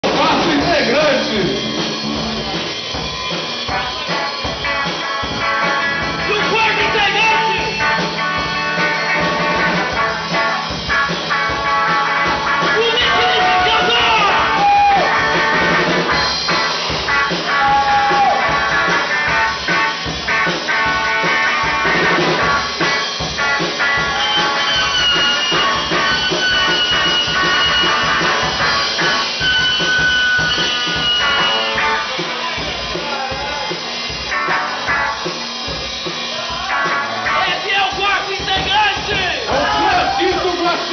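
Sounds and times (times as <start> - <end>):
drum kit beat: 0.0 - 40.9
rock band playing: 0.0 - 40.9.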